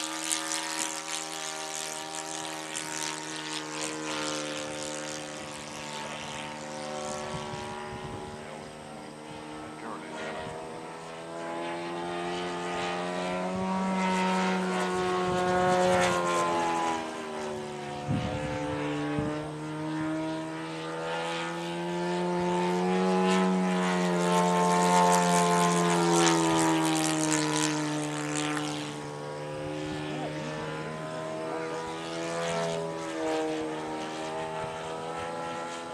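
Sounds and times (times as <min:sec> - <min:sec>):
model plane engine and propeller: 0:00.0 - 0:35.9.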